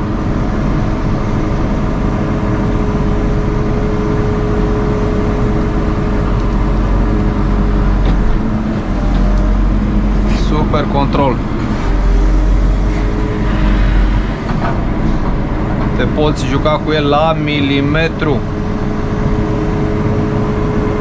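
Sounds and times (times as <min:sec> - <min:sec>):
diesel engine running: 0:00.0 - 0:21.0
hydraulic whine: 0:00.0 - 0:21.0.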